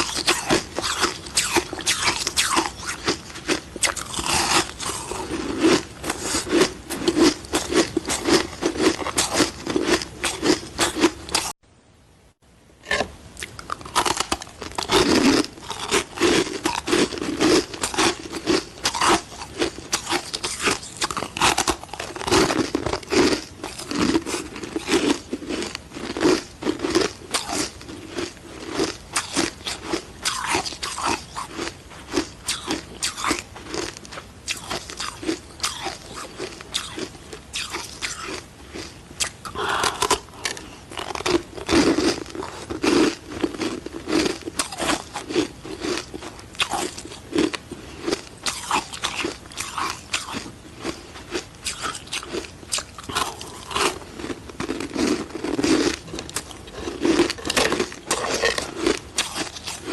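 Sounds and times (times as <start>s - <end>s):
ice being chewed with crunches: 0.0s - 11.6s, 12.9s - 59.9s.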